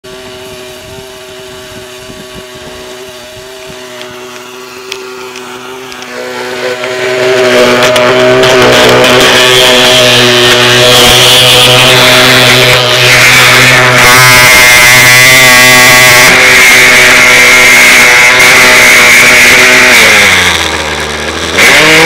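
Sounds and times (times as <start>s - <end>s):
model helicopter engine running: 0.1s - 22.0s.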